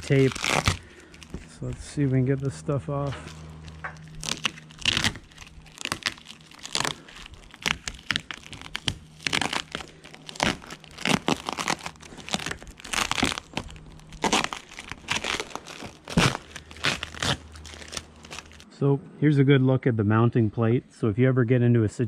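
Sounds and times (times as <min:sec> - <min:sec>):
tape ripping and crinkling: 0:00.0 - 0:18.6.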